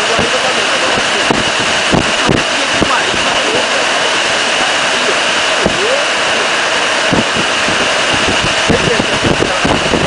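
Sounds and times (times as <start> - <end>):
heavy rain hissing: 0.0 - 10.0
strong wind: 0.0 - 10.0.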